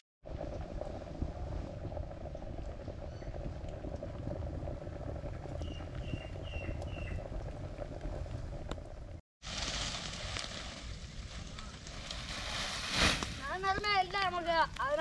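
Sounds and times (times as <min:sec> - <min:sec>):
pot boiling and bubbling: 0:00.2 - 0:15.0.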